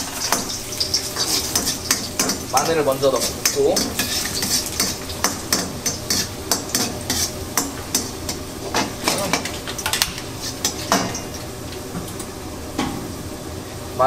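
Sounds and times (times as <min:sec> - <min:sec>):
metal utensil scraping a pan: 0:00.0 - 0:11.5
garlic sizzling in hot oil: 0:00.0 - 0:14.0.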